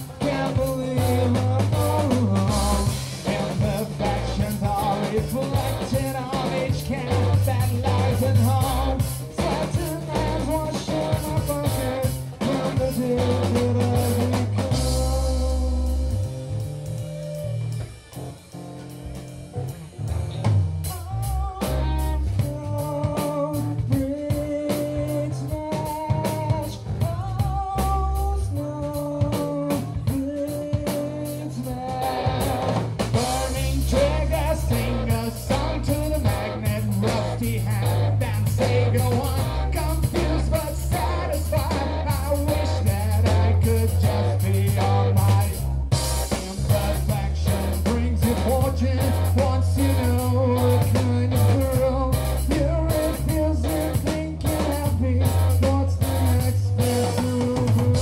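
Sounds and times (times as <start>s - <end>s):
person singing: 0.0s - 17.9s, 20.8s - 58.0s
bass guitar: 0.0s - 58.0s
drum kit: 0.0s - 58.0s
electric guitar: 0.0s - 58.0s.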